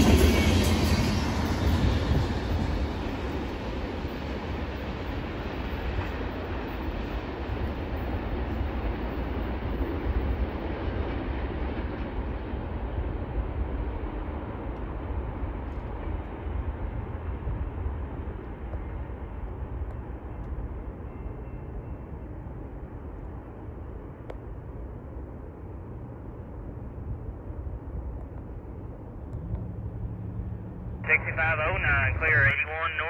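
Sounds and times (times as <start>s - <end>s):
passing train rumble: 0.0s - 33.0s.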